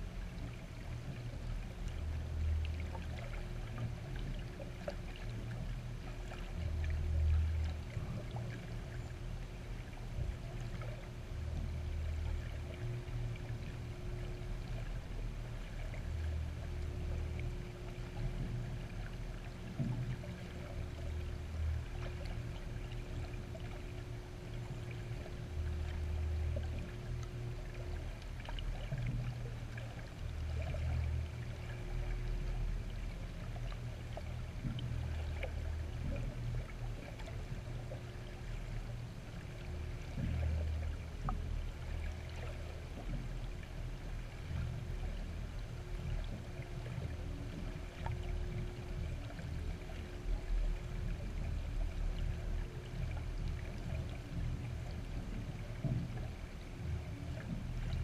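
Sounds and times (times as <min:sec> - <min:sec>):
faint hum: 0:00.0 - 0:58.0
muffled underwater rumble: 0:00.0 - 0:58.0.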